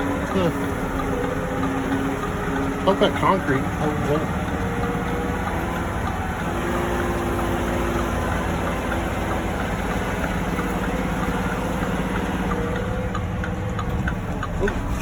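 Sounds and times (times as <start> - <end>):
diesel truck engine at low revs: 0.0 - 15.0
light rattling ticks: 0.0 - 15.0.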